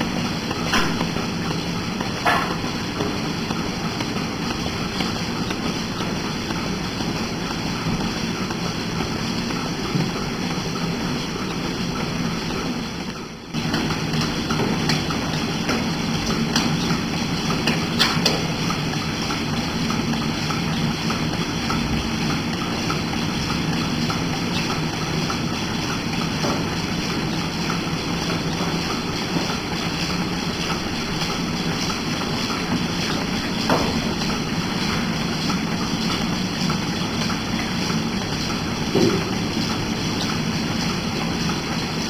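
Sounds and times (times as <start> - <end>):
milking machine hum and hiss: 0.0 - 42.0.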